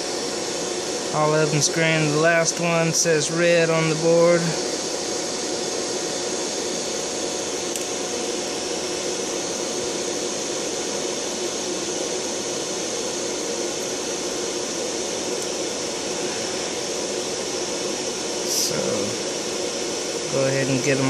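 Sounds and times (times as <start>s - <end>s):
large fan running: 0.0s - 21.0s.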